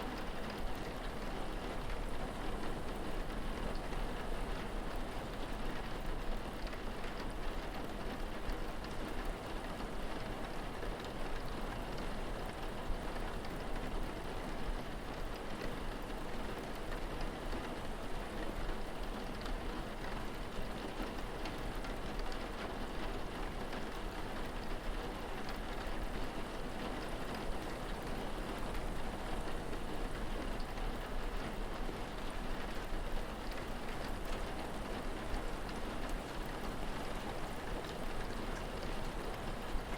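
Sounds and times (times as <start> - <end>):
raindrops pattering on a surface: 0.0 - 39.9
steady rain falling: 0.0 - 39.9.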